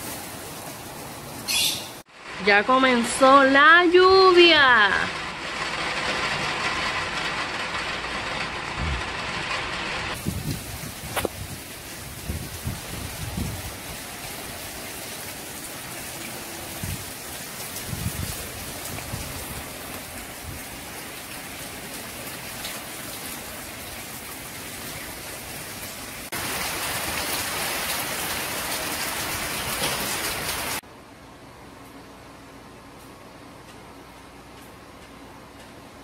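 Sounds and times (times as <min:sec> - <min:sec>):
steady rain hiss: 0:00.0 - 0:36.0.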